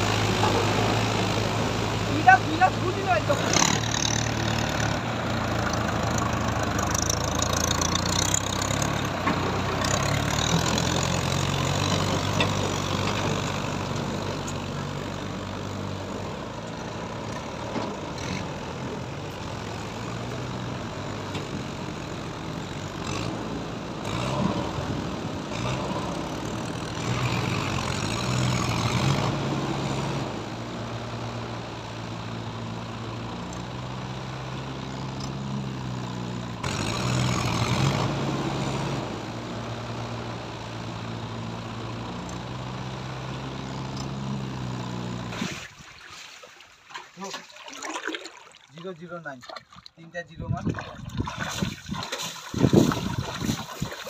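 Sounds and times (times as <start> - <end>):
tractor diesel engines running: 0.0 - 45.8, 51.1 - 54.0.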